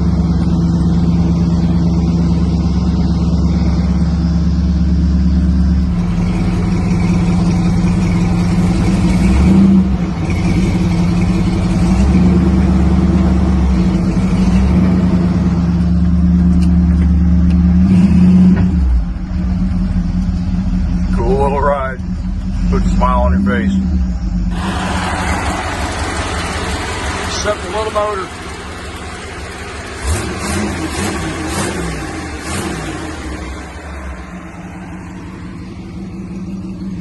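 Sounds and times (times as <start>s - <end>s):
pickup truck engine running: 0.0s - 37.0s.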